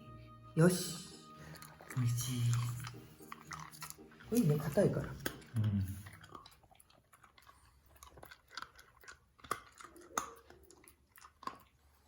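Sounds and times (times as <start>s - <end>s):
dog crunching hard food: 1.4s - 12.0s.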